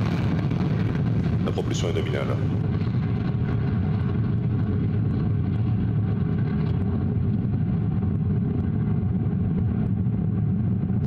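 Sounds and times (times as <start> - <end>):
rocket engine rumble: 0.0 - 11.0.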